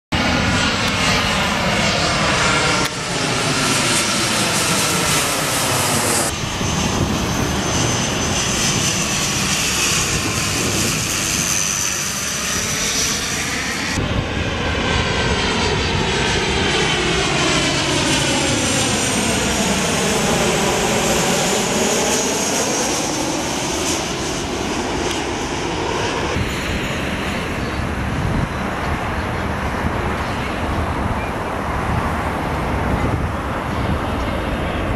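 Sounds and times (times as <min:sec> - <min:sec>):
airliner engines rumbling and whining: 0:00.1 - 0:34.9.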